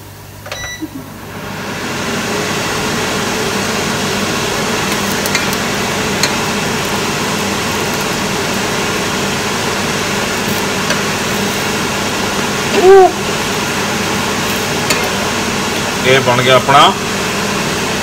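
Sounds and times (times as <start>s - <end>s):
fan whirring with low hum: 0.0s - 18.0s.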